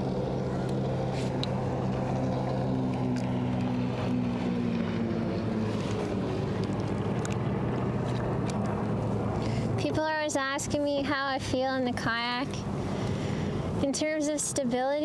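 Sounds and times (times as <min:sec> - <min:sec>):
motorboat engine droning: 0:00.0 - 0:14.7
hiss of wind and water: 0:00.0 - 0:15.0.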